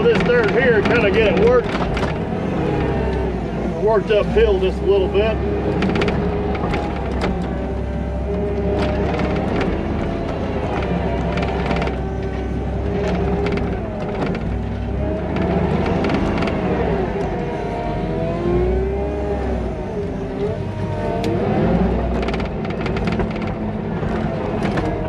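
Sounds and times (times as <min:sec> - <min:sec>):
diesel engine and hydraulics working: 0:00.0 - 0:25.0.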